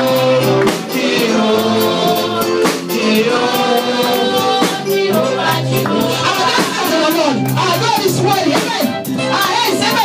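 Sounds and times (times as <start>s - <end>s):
gospel choir singing: 0.0s - 7.4s, 8.6s - 10.0s
drum strikes keeping the beat: 0.0s - 10.0s
instrumental backing music: 0.0s - 10.0s.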